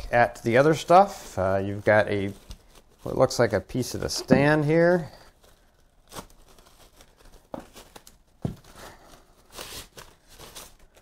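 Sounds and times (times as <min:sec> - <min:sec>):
plastic wrapping crinkling: 0:00.4 - 0:11.0.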